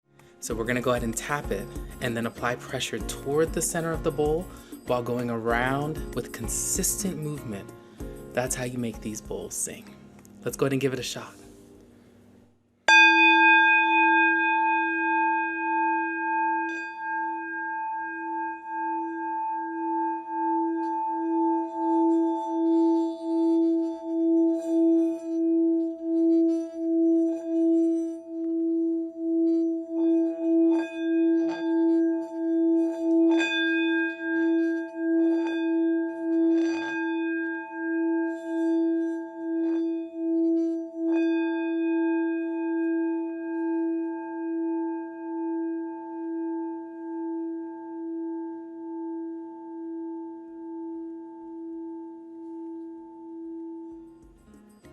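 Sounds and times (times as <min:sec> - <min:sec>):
singing bowl tone: 0:00.2 - 0:11.8, 0:12.9 - 0:54.9.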